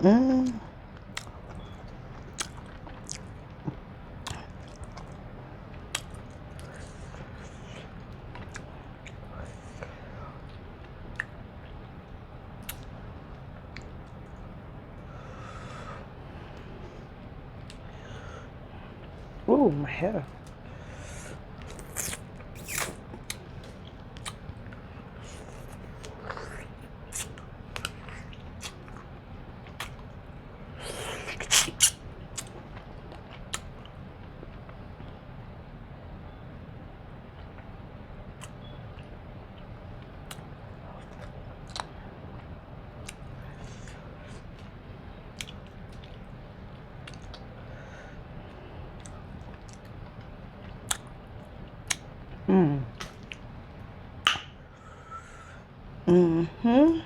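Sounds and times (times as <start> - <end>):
chewing and wet mouth sounds: 0.4 - 15.1, 16.5 - 18.2, 20.2 - 35.2, 37.3 - 54.9.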